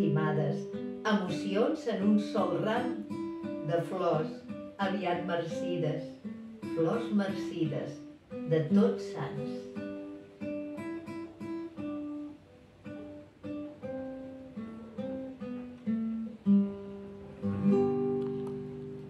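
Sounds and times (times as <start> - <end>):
classical guitar solo: 0.0 - 19.0.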